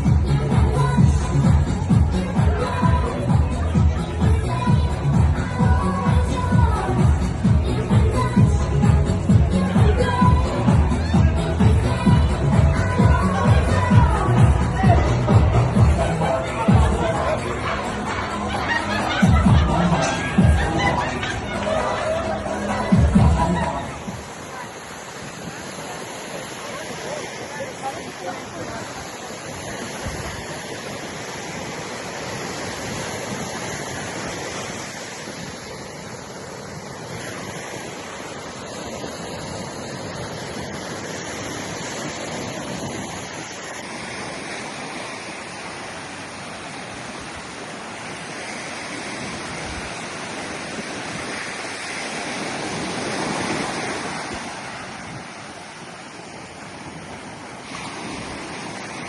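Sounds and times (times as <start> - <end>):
ocean waves rushing: 0.0 - 59.0.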